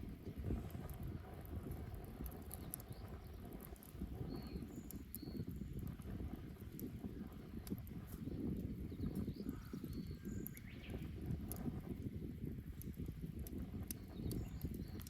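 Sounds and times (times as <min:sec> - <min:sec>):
bonfire flames rumbling: 0:00.0 - 0:15.0
burning wood crackling: 0:00.0 - 0:15.0.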